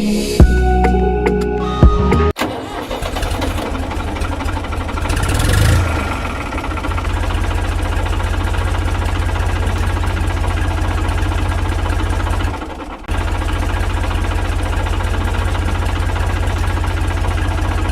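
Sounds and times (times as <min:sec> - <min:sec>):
engine idling with knock: 0:02.4 - 0:17.9.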